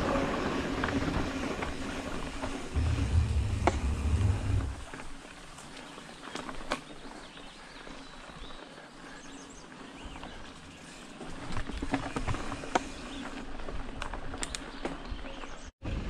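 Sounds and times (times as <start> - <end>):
bike clicking and rattling: 0.0 - 15.6
bike tyres rolling over dirt and leaves: 0.0 - 16.0.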